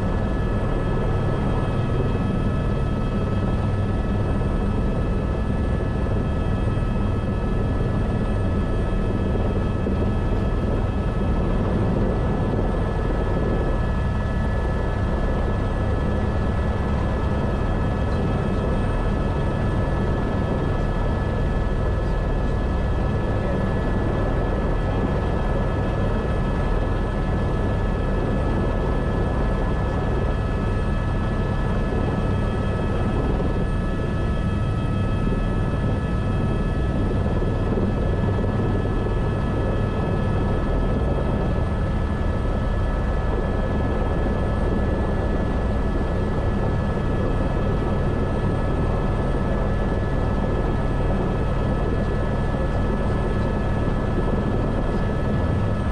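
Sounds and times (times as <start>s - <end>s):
helicopter low drone: 0.0s - 55.9s.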